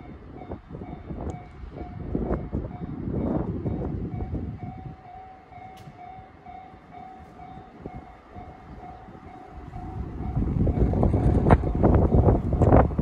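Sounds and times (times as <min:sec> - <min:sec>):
level-crossing warning bell ringing: 0:00.0 - 0:12.3
wind on microphone: 0:00.0 - 0:13.0.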